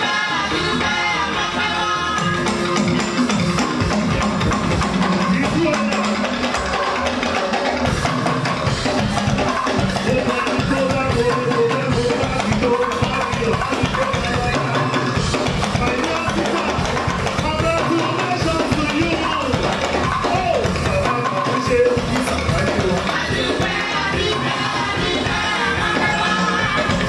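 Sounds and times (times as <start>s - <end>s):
choir and lead singer singing: 0.0s - 27.0s
drum kit and percussion: 0.0s - 27.0s.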